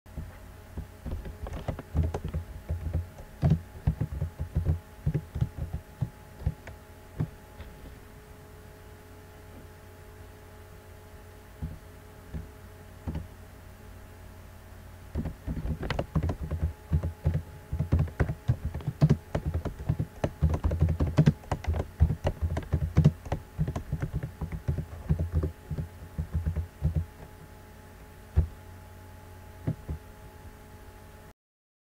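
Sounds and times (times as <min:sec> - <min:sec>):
low electrical hum: 0:00.1 - 0:31.3.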